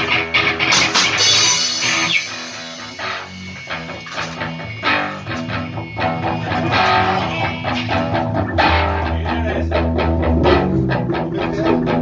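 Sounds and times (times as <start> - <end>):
bass guitar: 0.0 - 12.0
drum kit: 0.0 - 12.0
electric guitars: 0.0 - 12.0.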